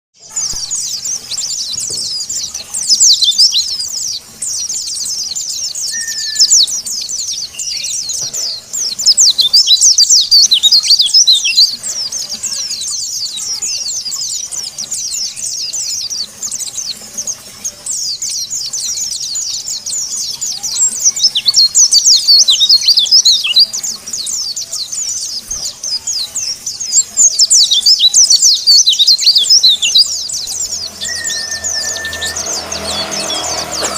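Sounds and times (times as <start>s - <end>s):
bird chattering and trilling: 0.2s - 33.9s.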